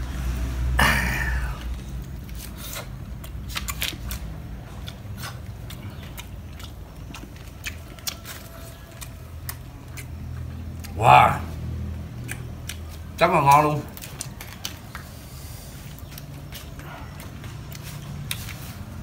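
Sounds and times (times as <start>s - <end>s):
person chewing crunchy fish: 1.2s - 11.0s, 12.1s - 19.0s.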